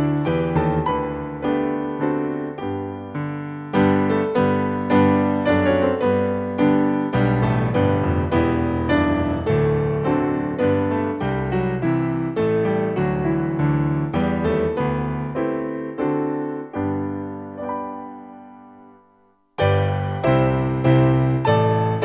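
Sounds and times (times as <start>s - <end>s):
slow solo piano piece: 0.0s - 22.0s.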